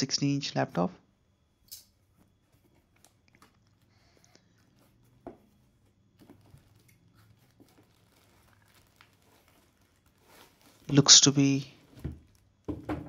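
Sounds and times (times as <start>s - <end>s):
plastic wrapping rustling: 1.3s - 13.0s.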